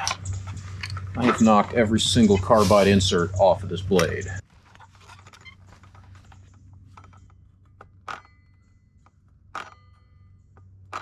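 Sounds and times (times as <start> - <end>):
handling noise: 0.0 - 11.0.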